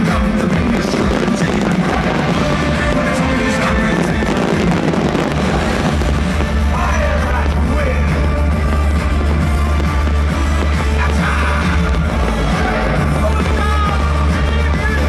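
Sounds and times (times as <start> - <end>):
loud music with heavy bass: 0.0 - 15.0
voices singing: 0.0 - 15.0.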